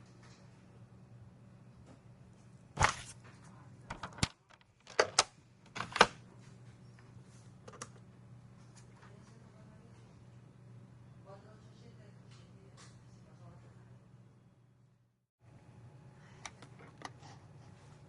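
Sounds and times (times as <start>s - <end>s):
low office hum: 0.0s - 18.0s.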